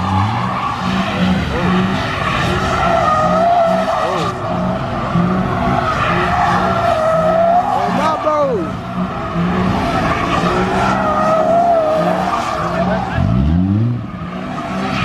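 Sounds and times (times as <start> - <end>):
car engine running: 0.0 - 15.0
car tyres squealing: 0.0 - 15.0.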